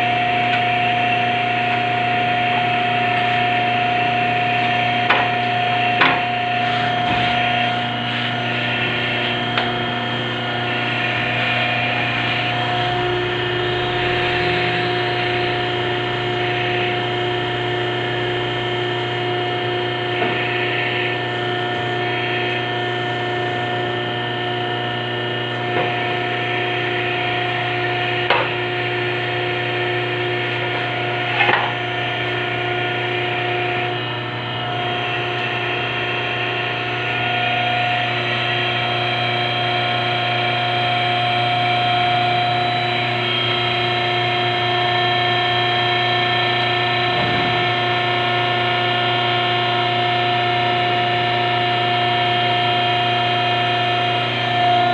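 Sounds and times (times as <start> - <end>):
hydraulic pump motor humming: 0.0 - 54.9.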